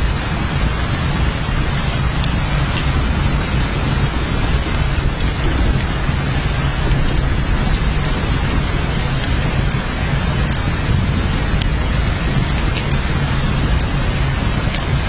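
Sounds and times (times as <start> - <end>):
heavy rain hissing: 0.0 - 15.0
raindrops ticking: 0.0 - 15.0
deep low rumble: 0.4 - 13.6.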